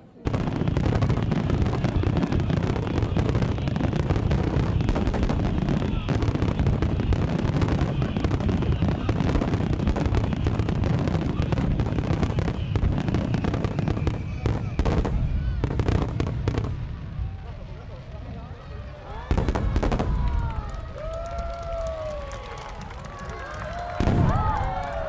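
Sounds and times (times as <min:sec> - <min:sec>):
fireworks crackling: 0:00.0 - 0:25.0
fireworks booming: 0:00.2 - 0:22.5, 0:23.8 - 0:25.0.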